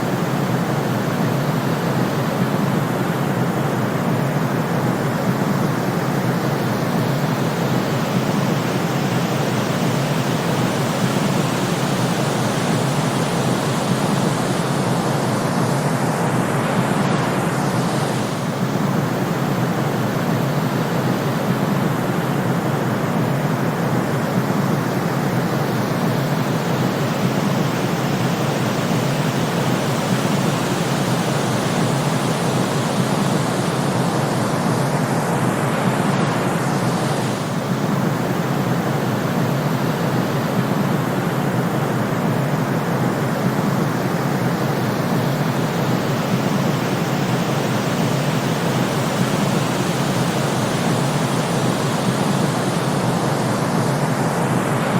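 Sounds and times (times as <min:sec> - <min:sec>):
steady white noise hiss: 0:00.0 - 0:54.9.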